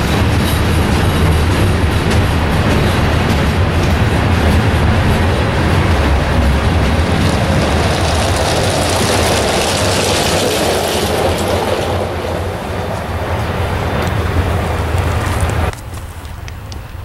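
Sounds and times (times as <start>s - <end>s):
train cars rumbling past: 0.0s - 17.0s.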